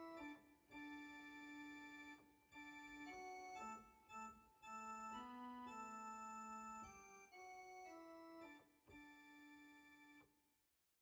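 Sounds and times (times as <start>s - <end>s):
slow keyboard chords: 0.0s - 10.1s.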